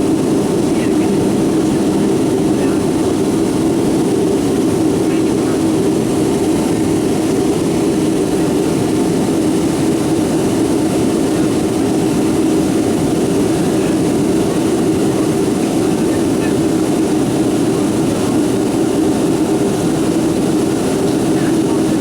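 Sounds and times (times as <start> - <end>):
airliner cabin jet engine rush: 0.0 - 22.0.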